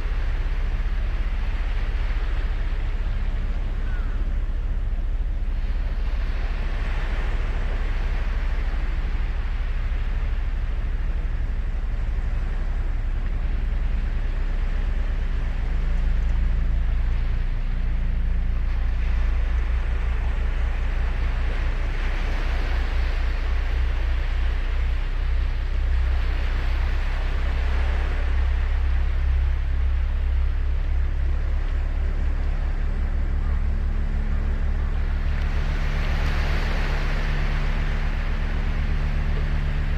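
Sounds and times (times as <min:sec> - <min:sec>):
surf washing on sand: 0:00.0 - 0:39.9
wind rumble on microphone: 0:00.0 - 0:39.9.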